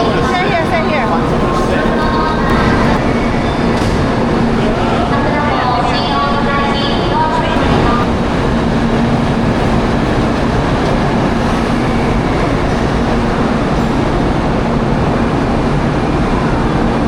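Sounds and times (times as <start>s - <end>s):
constant low hum: 0.0s - 17.0s
train rumbling: 0.0s - 17.0s.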